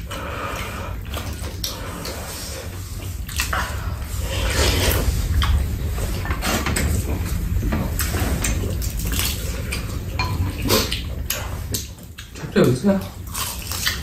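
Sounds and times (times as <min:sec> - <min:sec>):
slurping and eating: 0:00.0 - 0:12.4
steady low rumble: 0:00.0 - 0:14.0.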